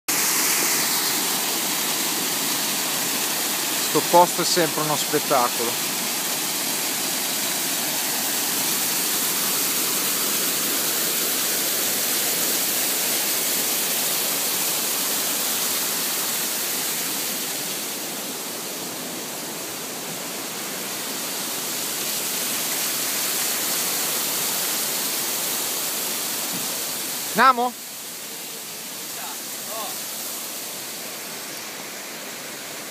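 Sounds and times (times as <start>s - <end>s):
small waterfall rushing: 0.1s - 32.9s.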